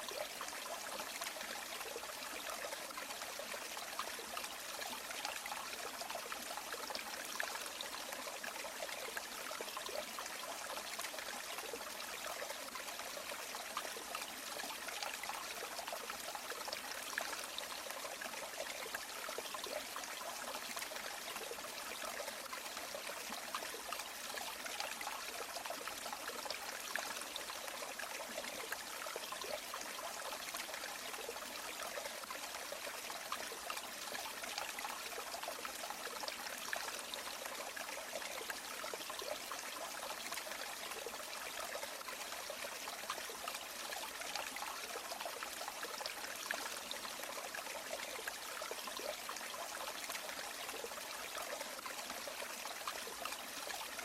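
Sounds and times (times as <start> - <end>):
stream flowing and babbling: 0.0 - 54.0.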